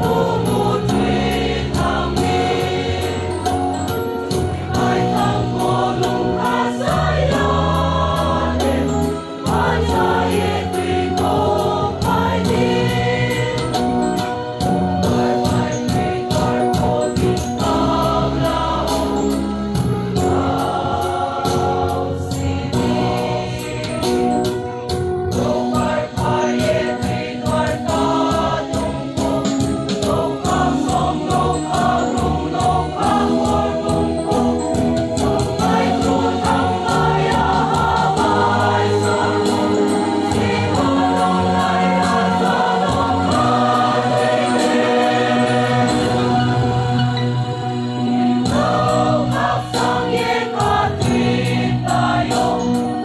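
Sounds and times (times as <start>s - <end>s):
mixed choir singing a hymn: 0.0s - 53.0s.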